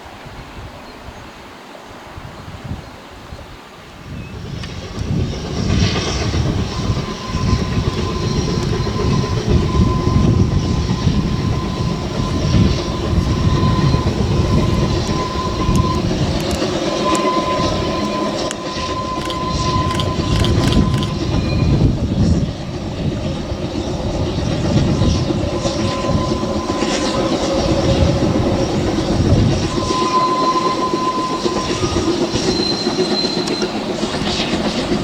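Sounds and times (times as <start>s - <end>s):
steam locomotive exhaust beats: 4.4s - 35.0s
thin steady whine: 5.0s - 35.0s.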